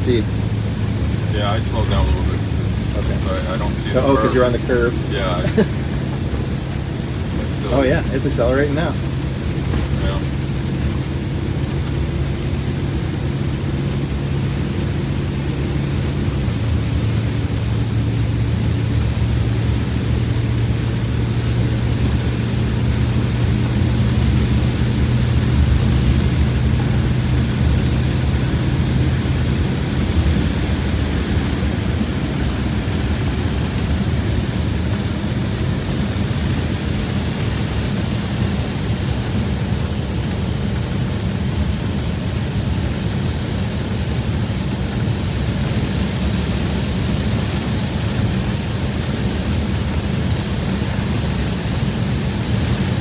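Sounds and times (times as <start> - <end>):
diesel bus engine drone: 0.0 - 53.0
road and wind rumble: 0.0 - 53.0.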